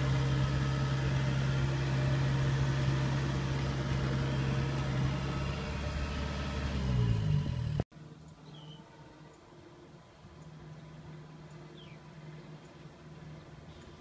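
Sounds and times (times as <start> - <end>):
farm machine engines humming: 0.0 - 14.0.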